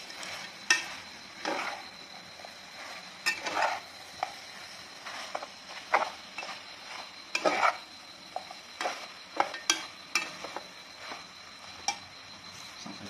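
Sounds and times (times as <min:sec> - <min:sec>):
frying sizzle: 0:00.0 - 0:13.0
metal spoon scraping a pot: 0:00.1 - 0:01.8, 0:02.4 - 0:12.1.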